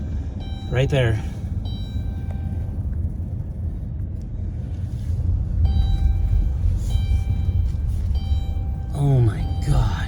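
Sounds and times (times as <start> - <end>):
strong wind buffeting car: 0.0 - 10.0.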